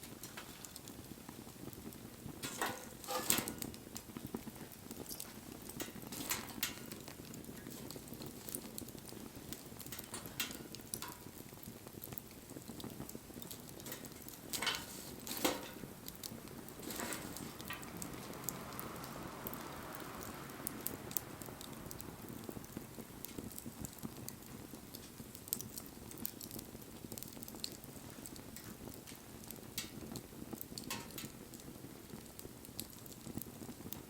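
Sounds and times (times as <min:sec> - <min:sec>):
bonfire pops and snaps: 0:00.0 - 0:34.0
low rustle of burning: 0:00.0 - 0:34.0.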